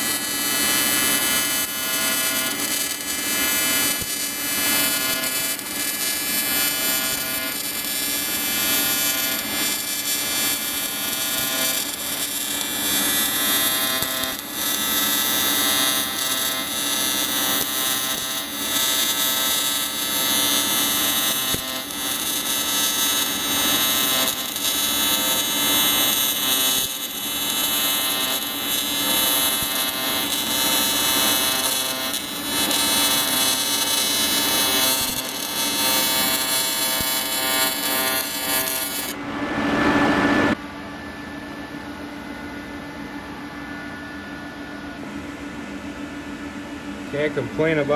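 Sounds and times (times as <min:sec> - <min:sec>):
welding arc buzzing: 0:00.0 - 0:39.2.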